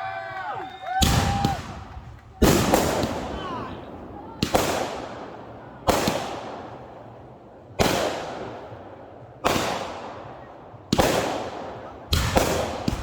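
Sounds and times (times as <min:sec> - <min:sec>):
fireworks bangs echoing: 0:01.0 - 0:13.0.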